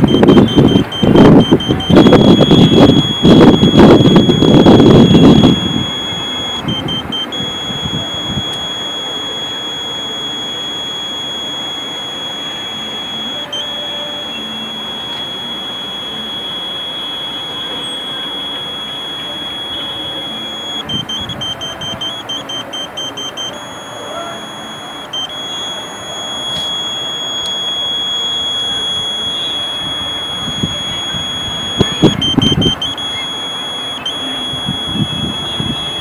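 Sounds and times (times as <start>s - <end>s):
high-pitched pointing tone: 0.0s - 36.0s.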